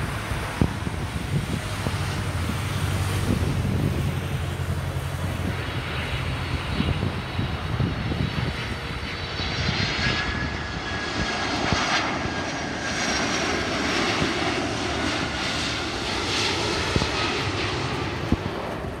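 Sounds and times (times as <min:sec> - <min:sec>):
jet airliner passing low: 0:00.0 - 0:19.0.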